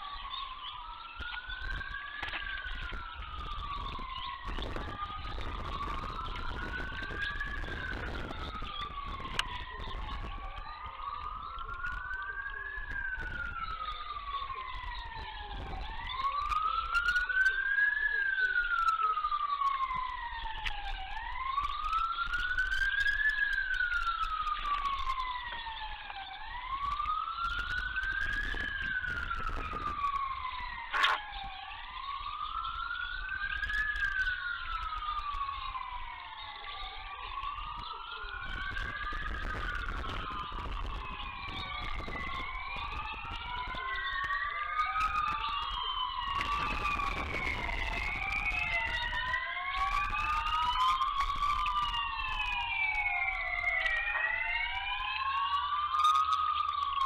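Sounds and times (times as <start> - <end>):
fainter siren sweep: 0.0 - 57.0
siren wailing: 0.0 - 57.0.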